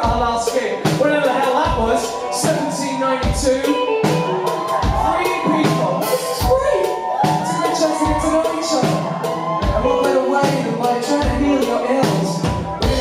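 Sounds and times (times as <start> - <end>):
pop-rock band playing live: 0.0 - 13.0.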